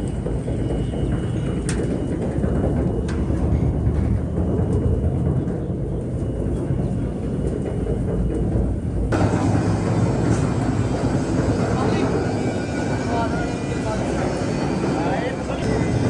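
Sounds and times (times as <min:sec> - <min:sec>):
heavy machinery rumbling: 0:00.0 - 0:16.0.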